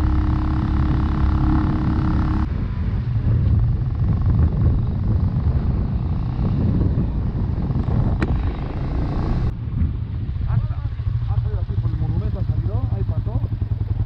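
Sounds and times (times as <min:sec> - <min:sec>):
motorbike engine running: 0:00.0 - 0:14.0
wind buffeting the microphone: 0:00.0 - 0:14.0.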